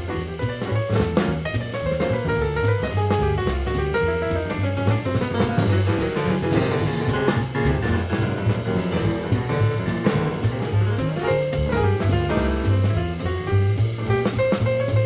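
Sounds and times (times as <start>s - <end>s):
double bass: 0.0s - 15.0s
drum kit: 0.0s - 15.0s
piano running lines: 0.0s - 15.0s.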